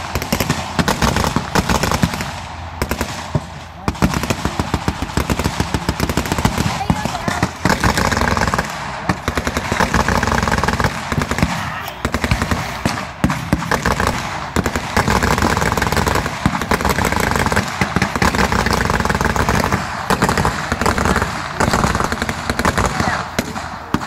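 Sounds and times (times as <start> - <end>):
rifle shots: 0.0 - 24.0.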